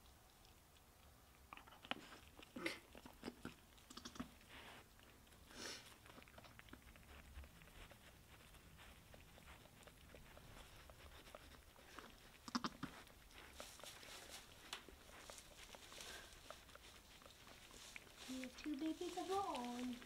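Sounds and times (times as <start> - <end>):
goat licking and mouth smacking: 0.0 - 20.0.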